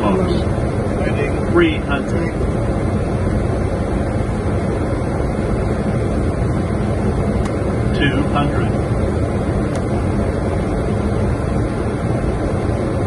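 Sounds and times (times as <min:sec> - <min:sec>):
aircraft engine noise: 0:00.0 - 0:13.0
rush of airflow: 0:00.0 - 0:13.0.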